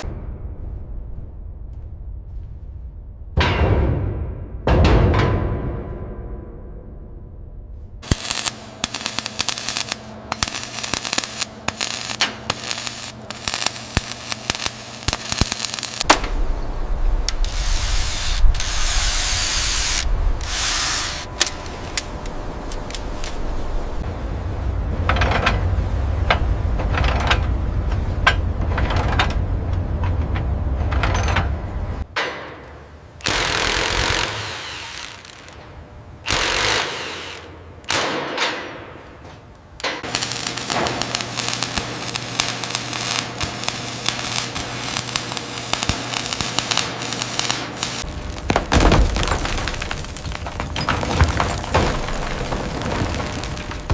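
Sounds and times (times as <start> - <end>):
power tool rumbling: 8.0 - 32.1, 33.1 - 38.1, 39.8 - 53.9.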